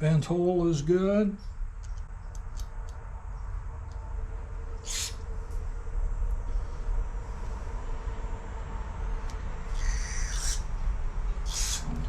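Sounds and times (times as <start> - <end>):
steady low hum with faint whine: 0.0 - 12.0.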